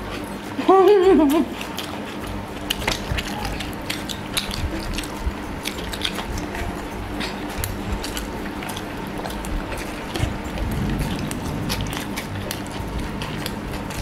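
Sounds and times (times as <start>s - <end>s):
chewing clicks and smacks: 0.0s - 14.0s
steady low hum: 0.0s - 14.0s
fingers working rice on plate: 1.0s - 14.0s.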